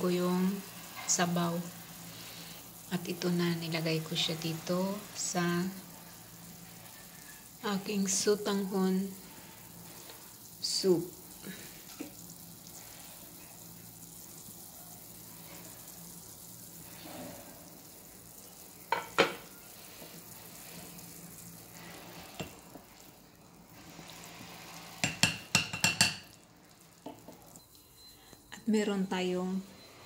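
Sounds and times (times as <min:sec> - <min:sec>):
broth simmering and bubbling: 0:00.0 - 0:28.8.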